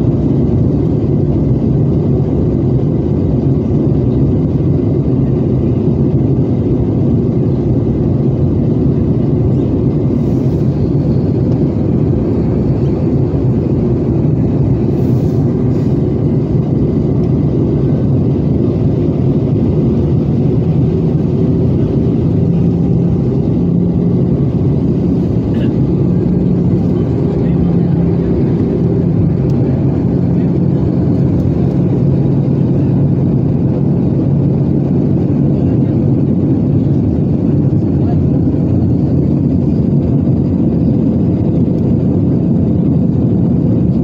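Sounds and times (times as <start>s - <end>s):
airplane cabin rumble: 0.0s - 44.0s
low steady hum: 5.3s - 44.0s.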